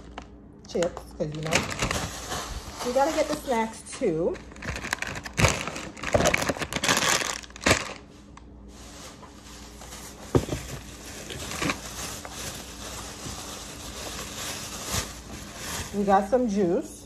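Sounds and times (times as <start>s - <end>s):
plastic bag crinkling: 0.0s - 16.8s.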